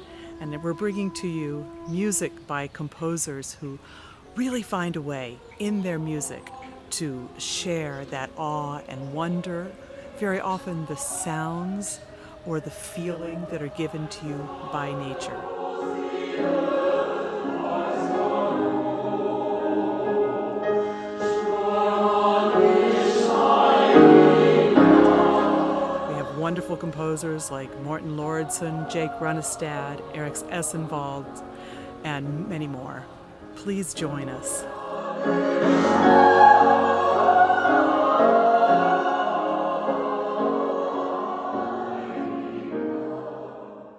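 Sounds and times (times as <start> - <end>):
choir singing sustained chords: 0.0 - 43.9.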